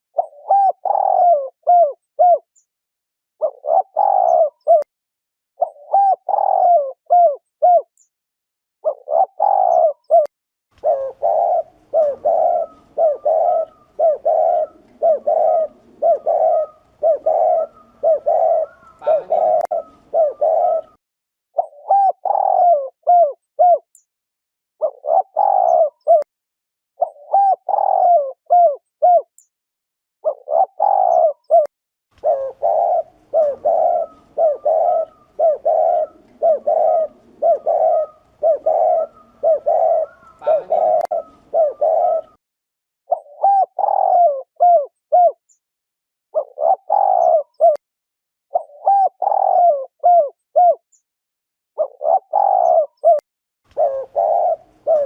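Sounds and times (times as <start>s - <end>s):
dove cooing: 0.2s - 2.4s, 3.4s - 4.9s, 5.6s - 7.9s, 8.8s - 21.0s, 21.6s - 23.8s, 24.8s - 26.3s, 27.0s - 29.3s, 30.2s - 42.4s, 43.1s - 45.4s, 46.4s - 47.8s, 48.5s - 50.8s, 51.8s - 55.0s.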